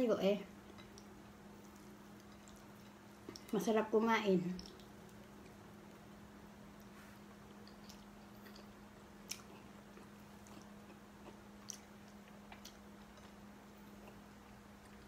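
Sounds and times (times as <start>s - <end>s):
faint chewing: 0.6s - 3.7s, 4.5s - 15.0s.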